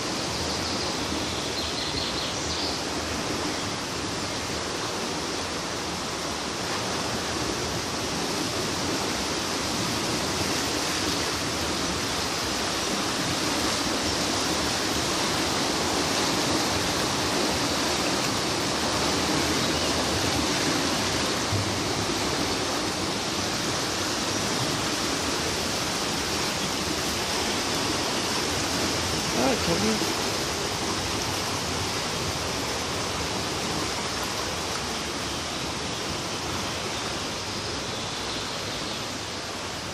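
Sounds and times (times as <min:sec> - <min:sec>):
floodwater rushing: 0:02.7 - 0:39.9.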